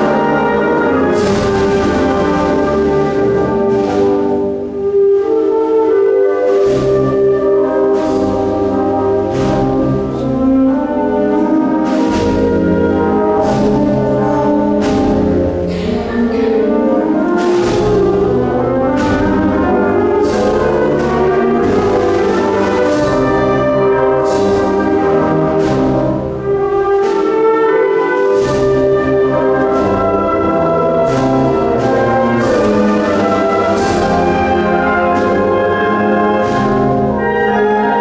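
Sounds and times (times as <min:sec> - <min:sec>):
sharp percussion strikes: 0:00.0 - 0:04.9, 0:06.5 - 0:37.3
wind band playing slow march: 0:00.0 - 0:38.0.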